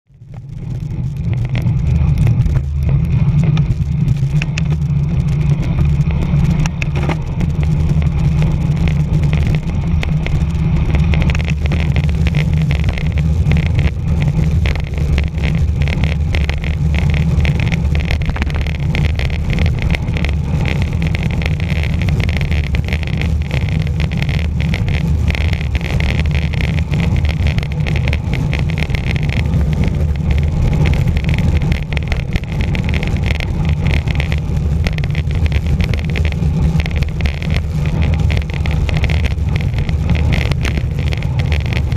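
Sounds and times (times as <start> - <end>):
road noise: 0.1 - 41.9
wind rushing over microphone: 0.3 - 41.9.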